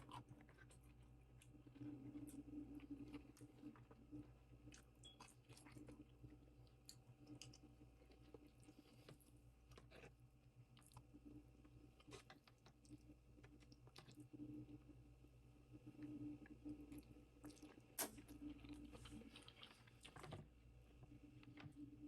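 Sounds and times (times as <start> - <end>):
chewing food: 0.0 - 14.9, 15.8 - 22.0.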